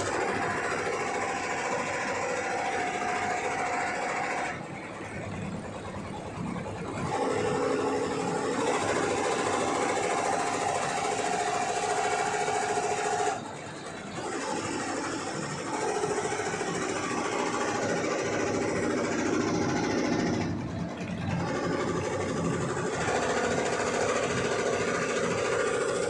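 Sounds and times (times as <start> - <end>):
embroidery machine whirring: 0.0 - 26.0.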